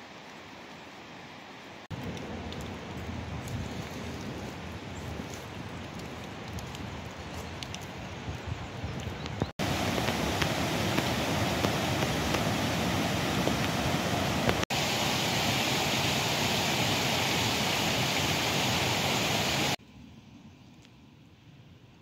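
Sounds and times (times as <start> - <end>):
stream rushing over boulders: 0.0 - 19.8.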